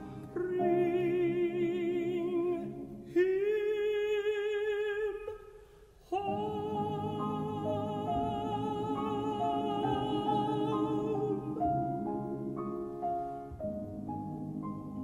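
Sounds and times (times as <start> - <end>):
person singing with vibrato: 0.0 - 13.5
soft musical accompaniment: 0.0 - 15.0.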